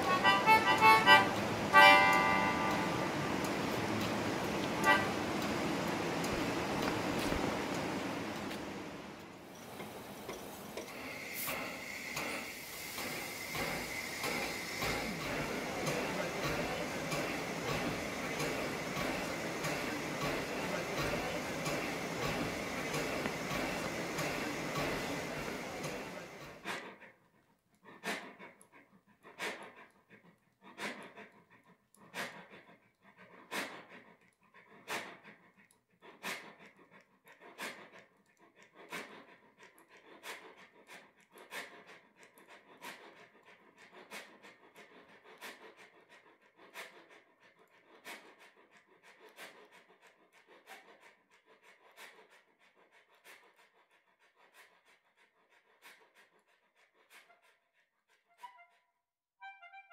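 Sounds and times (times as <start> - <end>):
steam locomotive chuffing: 0.0 - 27.2, 27.8 - 58.6.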